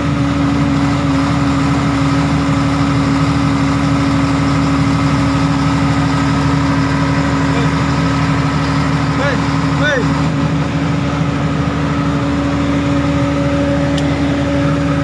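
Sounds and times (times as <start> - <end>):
diesel generator engine drone: 0.0 - 15.0.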